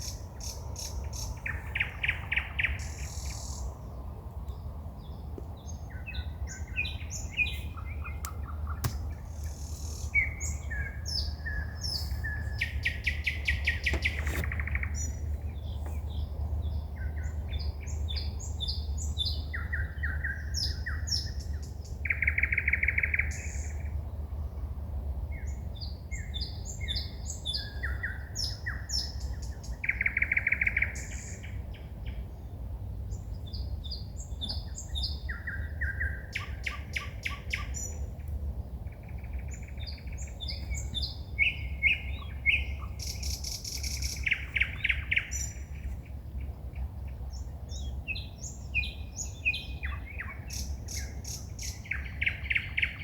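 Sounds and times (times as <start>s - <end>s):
low background rumble: 0.0s - 53.0s
songbird singing: 0.0s - 53.0s.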